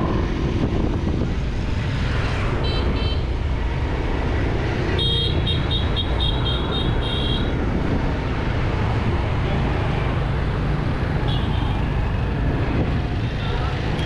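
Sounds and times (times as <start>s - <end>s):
traffic engine rumble: 0.0s - 14.0s
wind noise: 0.0s - 14.0s.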